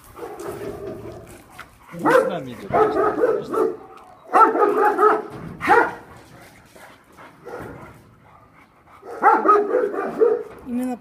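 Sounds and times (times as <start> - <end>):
dog barking and whining: 0.1 - 6.5, 7.4 - 10.6.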